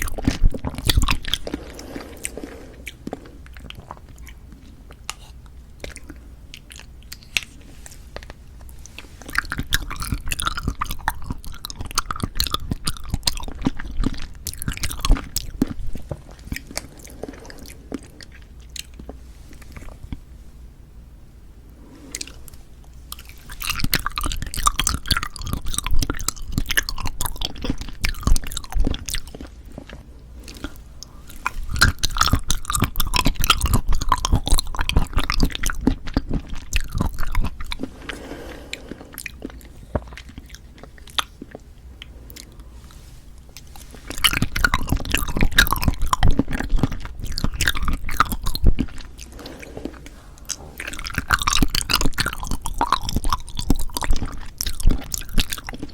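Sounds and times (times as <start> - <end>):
wet chewing of jelly: 0.0 - 20.3, 21.7 - 55.9.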